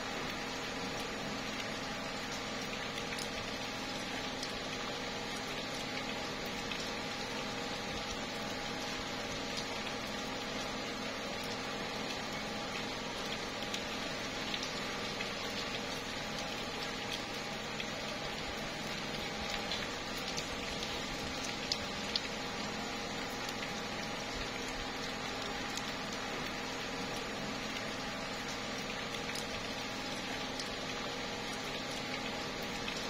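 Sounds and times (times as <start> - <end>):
light rain on leaves: 0.0 - 33.0.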